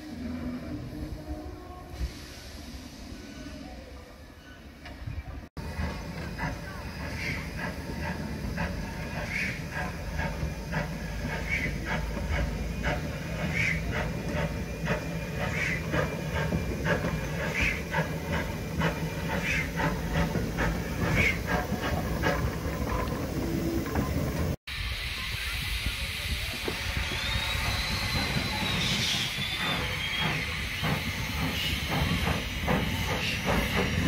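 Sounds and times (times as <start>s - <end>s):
steam locomotive chuffing: 5.6s - 34.0s.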